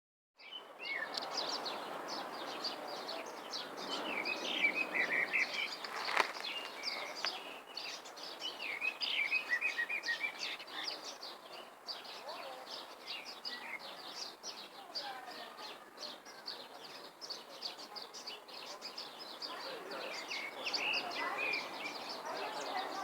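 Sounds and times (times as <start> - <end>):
birds chirping and trilling: 0.4 - 23.0.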